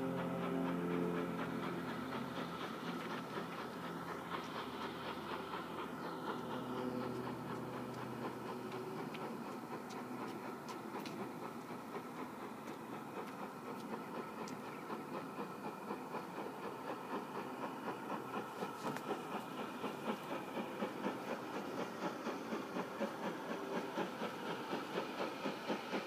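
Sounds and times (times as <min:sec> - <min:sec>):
steam locomotive chuffing: 0:00.0 - 0:26.0.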